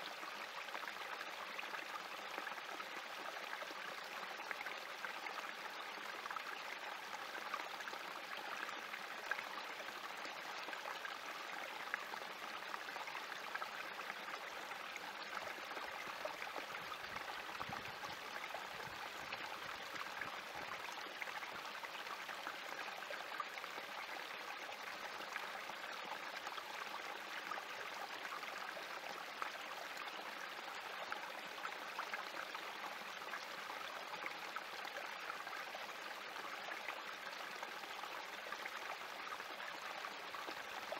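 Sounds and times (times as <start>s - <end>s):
creek trickling over rocks: 0.0s - 40.9s.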